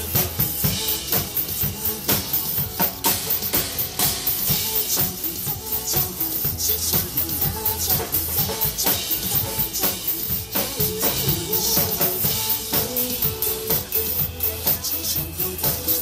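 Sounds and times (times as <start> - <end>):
drum kit playing: 0.0 - 16.0
pop backing track: 0.0 - 16.0.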